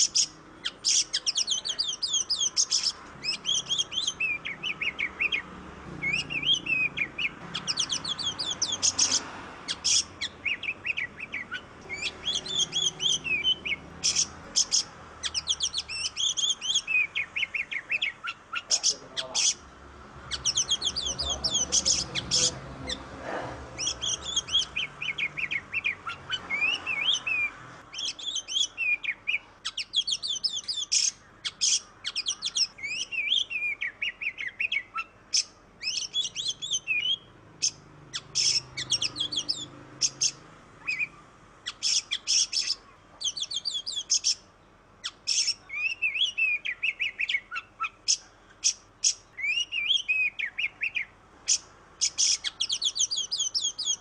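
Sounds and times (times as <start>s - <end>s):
bird singing whistles and chirps: 0.0s - 19.6s, 20.3s - 23.0s, 23.8s - 44.4s, 45.0s - 54.0s.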